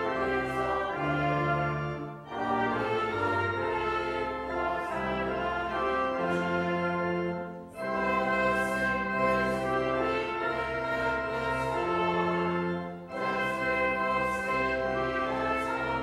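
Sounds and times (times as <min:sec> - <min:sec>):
hymn in slow sustained chords: 0:00.0 - 0:16.0.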